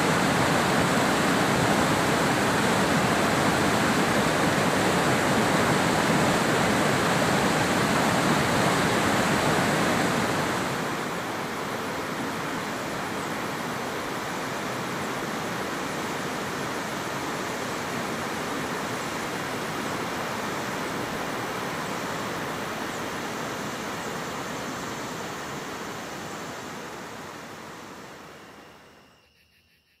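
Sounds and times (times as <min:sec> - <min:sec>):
waterfall rushing over rocks: 0:00.0 - 0:28.1.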